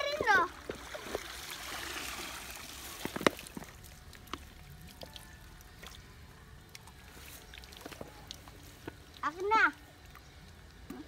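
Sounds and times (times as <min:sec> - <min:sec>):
water pouring and trickling: 0:00.0 - 0:11.0.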